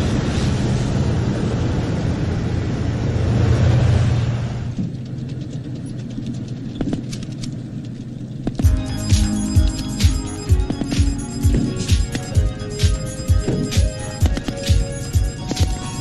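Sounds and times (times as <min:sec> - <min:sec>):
tracked vehicle engine and tracks: 0:00.0 - 0:16.0.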